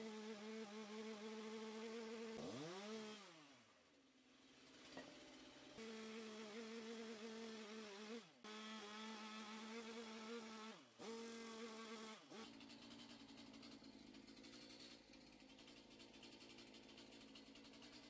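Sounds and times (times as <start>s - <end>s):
chainsaw engine buzzing: 0.0s - 3.8s, 4.4s - 18.0s.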